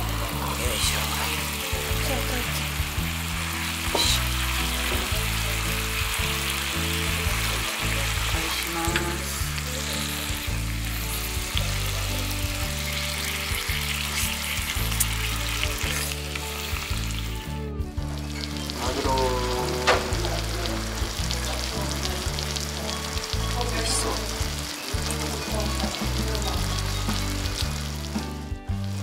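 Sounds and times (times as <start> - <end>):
background music with bass line: 0.0 - 29.0
food sizzling on hot dish: 0.0 - 29.0.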